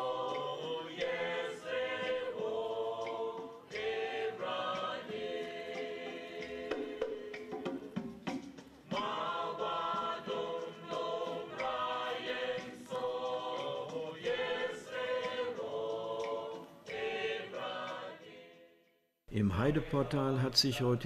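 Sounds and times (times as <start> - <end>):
mixed choir singing: 0.0 - 8.1, 8.8 - 18.9.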